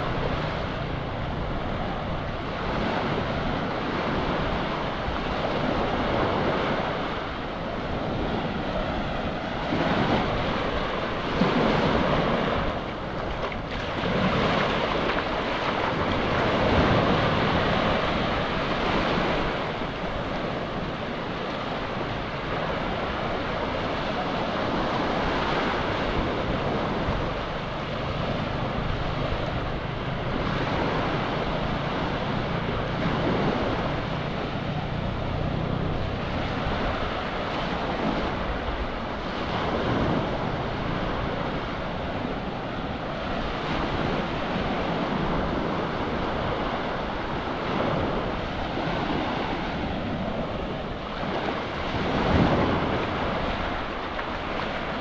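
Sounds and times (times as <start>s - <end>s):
sea surf breaking on beach: 0.0s - 55.0s
wind buffeting microphone: 0.0s - 55.0s.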